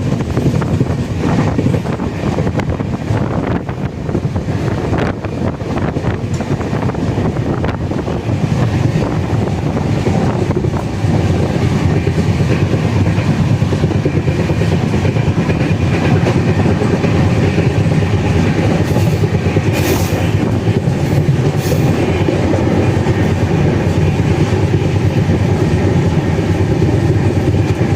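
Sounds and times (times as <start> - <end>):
train wheels rumbling on track: 0.0 - 27.9.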